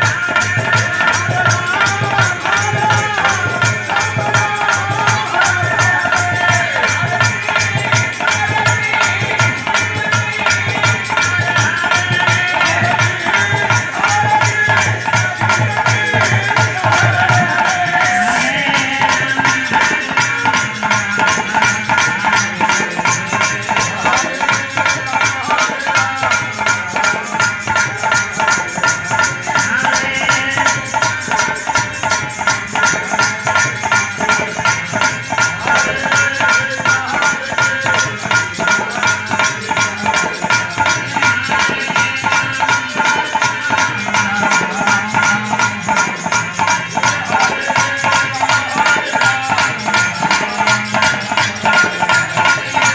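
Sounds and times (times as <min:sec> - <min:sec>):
fast percussion beat: 0:00.0 - 0:52.9.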